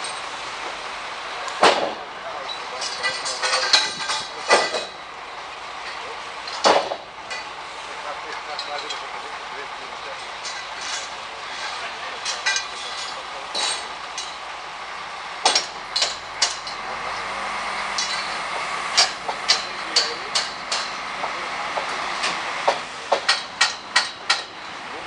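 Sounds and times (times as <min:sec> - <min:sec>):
truck engine hum: 0:00.0 - 0:25.0
metal clanks and hammer blows: 0:01.5 - 0:05.1, 0:05.8 - 0:07.6, 0:08.2 - 0:09.4, 0:10.0 - 0:14.5, 0:15.4 - 0:17.2, 0:17.8 - 0:25.0.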